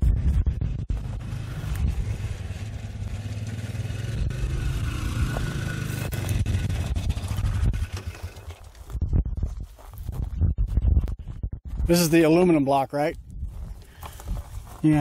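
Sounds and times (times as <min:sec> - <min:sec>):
vehicle engine running: 0:00.0 - 0:12.1.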